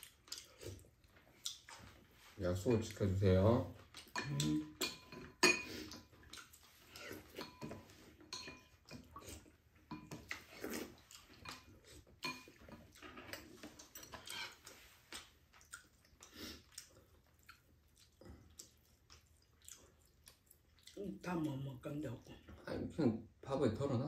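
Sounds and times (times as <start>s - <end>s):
chewing noodles: 0.0s - 3.1s, 3.8s - 21.6s.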